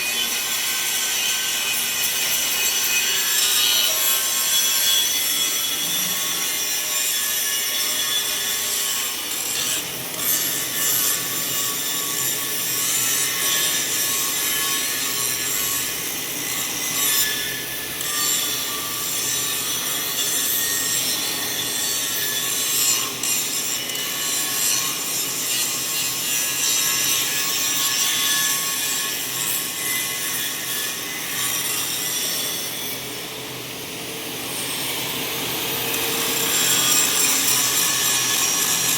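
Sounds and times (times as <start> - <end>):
angle grinder grinding steel: 0.0 - 33.9, 34.5 - 38.9.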